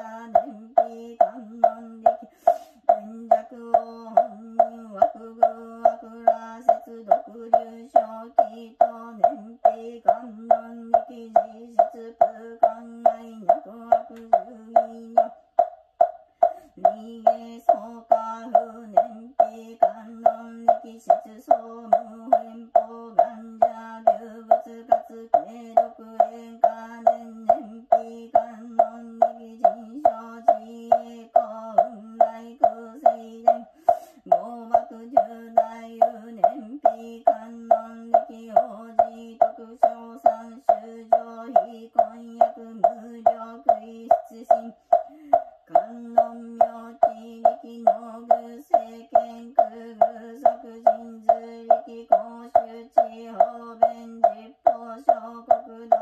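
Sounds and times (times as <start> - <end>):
wooden fish drum knocking: 0.0 - 56.0.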